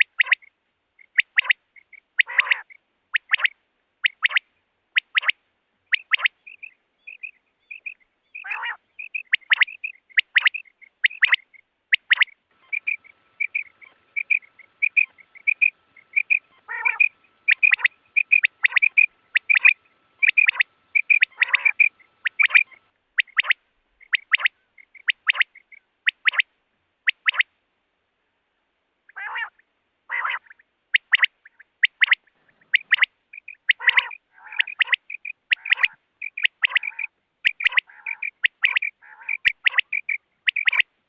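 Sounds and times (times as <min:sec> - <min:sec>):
quail calling: 0:00.0 - 0:27.5, 0:29.1 - 0:40.9.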